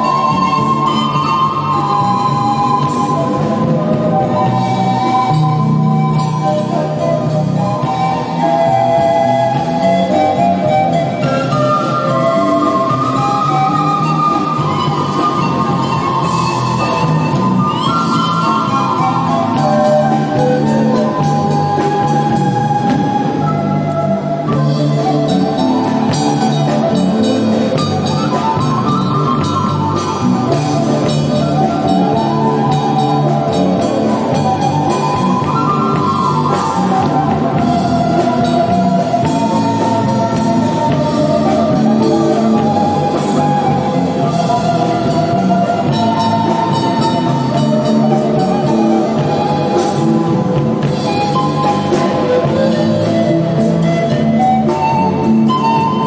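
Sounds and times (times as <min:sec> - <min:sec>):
folk band playing live: 0:00.0 - 0:56.0
guitar accompaniment: 0:00.0 - 0:56.0.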